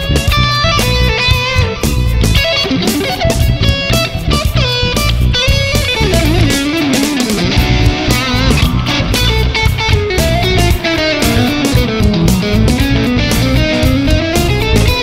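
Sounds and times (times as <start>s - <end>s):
bass and drum groove: 0.0s - 15.0s
electric guitar lead: 0.0s - 15.0s.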